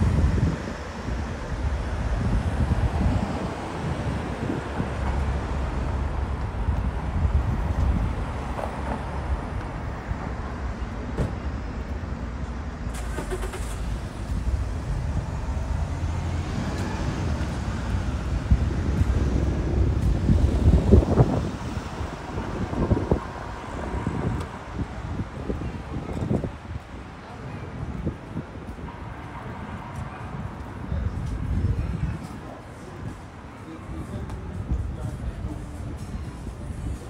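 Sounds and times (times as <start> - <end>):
vehicle engine rumble: 0.0 - 37.0.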